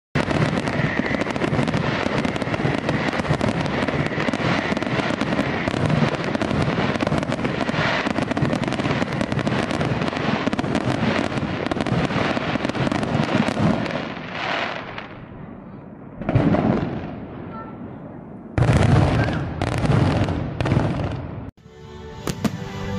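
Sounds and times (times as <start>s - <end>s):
fireworks crackling and popping: 0.2s - 17.6s, 18.6s - 21.6s, 22.2s - 22.9s.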